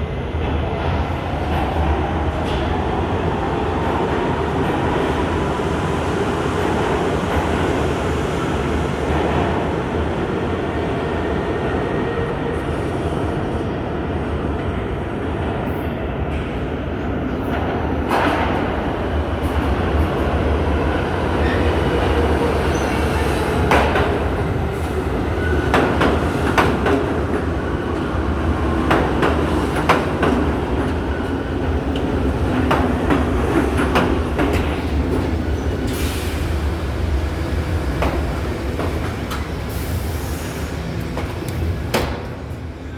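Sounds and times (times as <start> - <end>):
subway train rumbling: 0.0 - 42.9.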